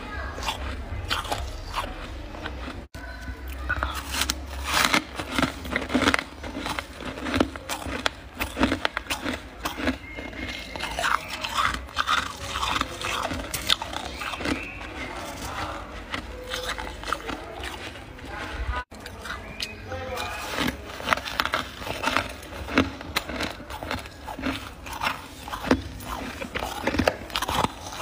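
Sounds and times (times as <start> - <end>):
frost being chewed crunching: 0.0 - 28.0.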